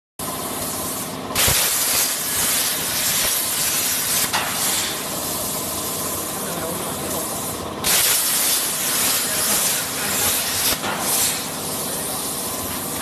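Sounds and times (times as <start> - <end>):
plasma torch cutting hiss: 0.2 - 13.0.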